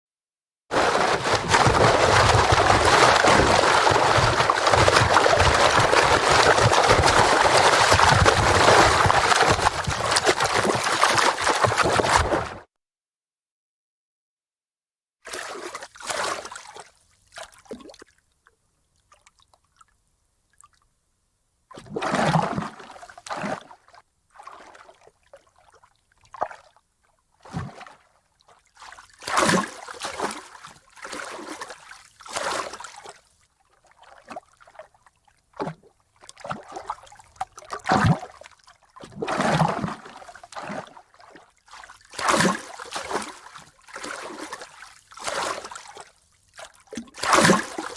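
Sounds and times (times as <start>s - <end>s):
water splashing and sloshing: 0.7s - 12.7s, 15.3s - 20.9s, 21.7s - 47.9s.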